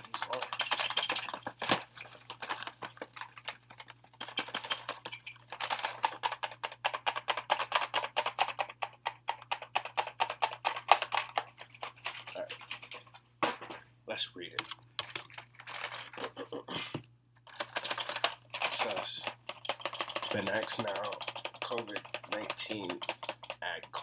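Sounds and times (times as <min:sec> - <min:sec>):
tapping and clicking of test kits: 0:00.0 - 0:13.8, 0:14.6 - 0:24.0.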